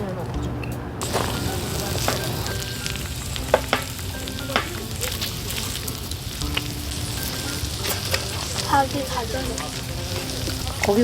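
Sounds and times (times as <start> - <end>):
meat sizzling on a grill: 1.0 - 11.0.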